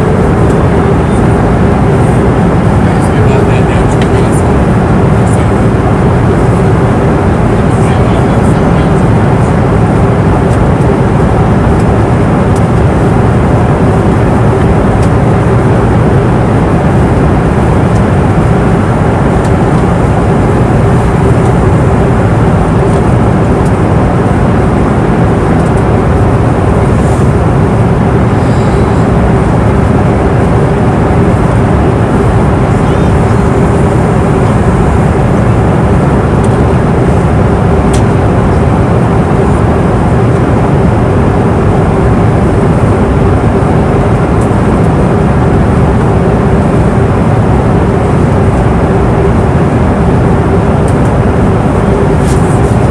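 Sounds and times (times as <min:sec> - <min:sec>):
airplane cabin engine and airflow noise: 0:00.0 - 0:52.9.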